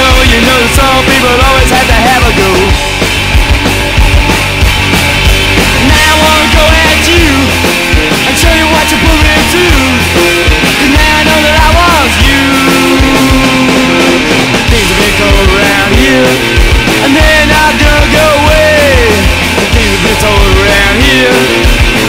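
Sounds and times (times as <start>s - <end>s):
bass line: 0.0s - 22.0s
drum hits: 0.0s - 22.0s
punk rock band playing: 0.0s - 22.0s.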